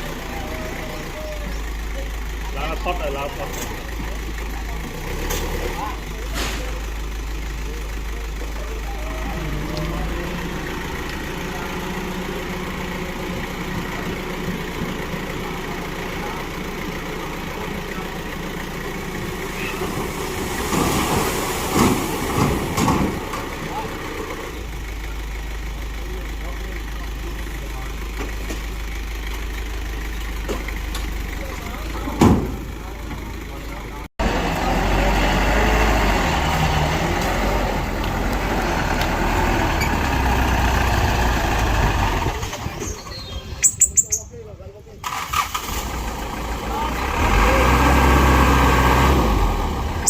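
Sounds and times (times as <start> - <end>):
heavy machine engine running: 0.0 - 43.2.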